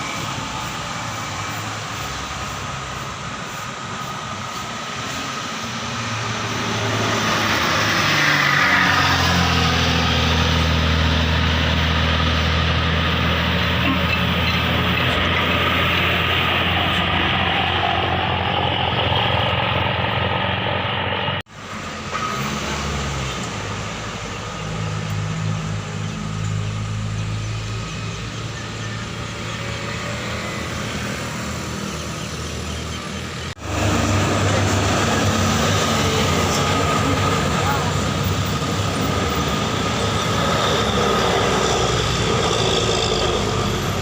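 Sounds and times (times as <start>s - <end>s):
traffic engine hum: 0.0s - 44.0s.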